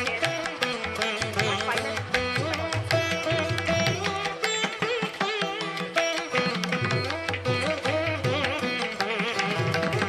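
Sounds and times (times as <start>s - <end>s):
instrumental music: 0.0s - 10.0s
sharp percussive strikes: 0.0s - 10.0s.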